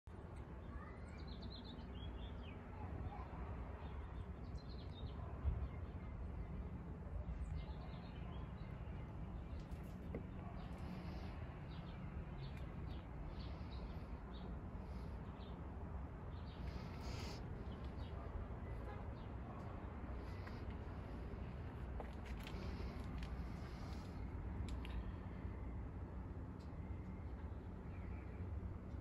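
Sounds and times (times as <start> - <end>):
low outdoor rumble: 0.1 - 29.0.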